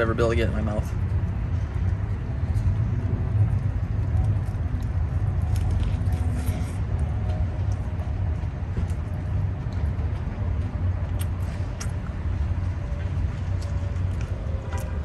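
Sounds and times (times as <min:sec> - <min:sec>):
urban background rumble: 0:00.0 - 0:15.0.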